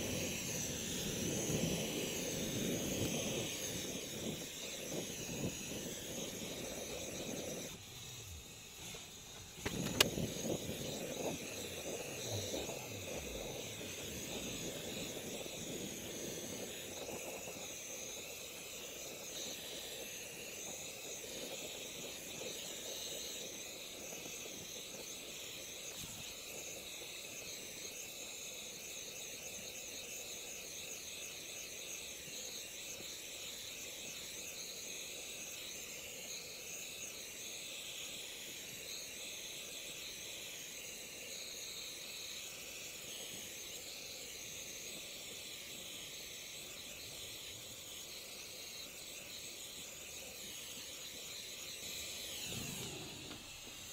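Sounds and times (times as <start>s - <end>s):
flame hissing: 0.0s - 53.9s.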